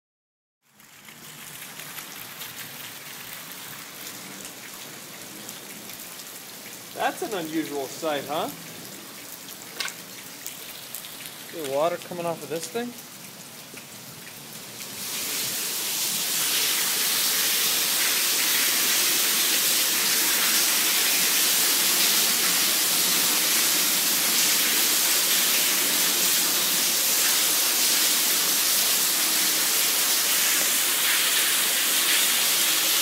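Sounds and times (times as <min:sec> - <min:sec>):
heavy rain pouring and splashing: 0:00.6 - 0:33.0.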